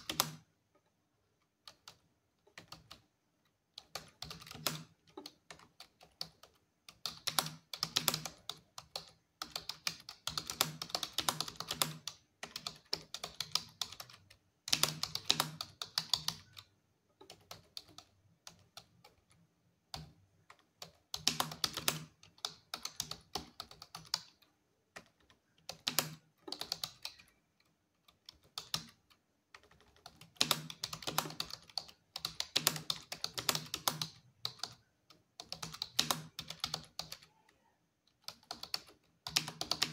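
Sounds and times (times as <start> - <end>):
fast typing on keyboard: 0.0 - 0.6, 1.5 - 39.9.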